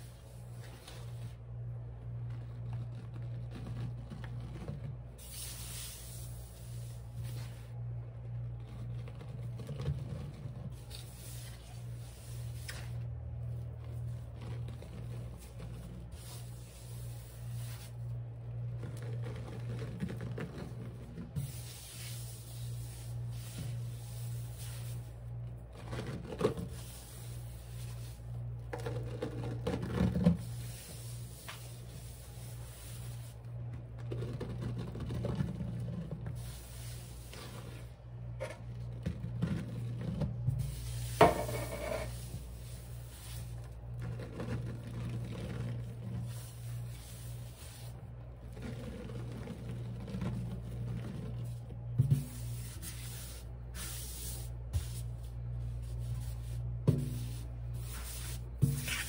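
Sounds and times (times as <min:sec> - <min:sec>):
sponge and powder handling sounds: 0:00.0 - 0:59.0
steady low hum: 0:00.0 - 0:59.0.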